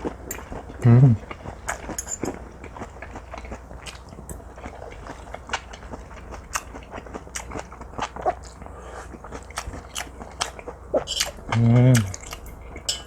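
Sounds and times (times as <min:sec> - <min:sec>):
close chewing: 0:00.0 - 0:13.0.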